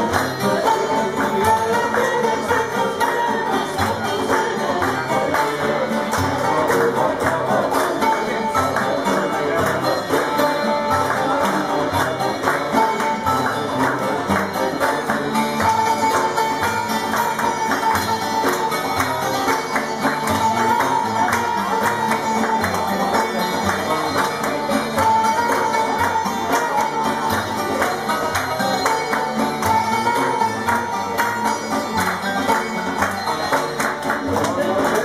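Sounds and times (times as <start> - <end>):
busy percussion: 0.0 - 35.0
melody instrument holding long notes: 0.0 - 35.0.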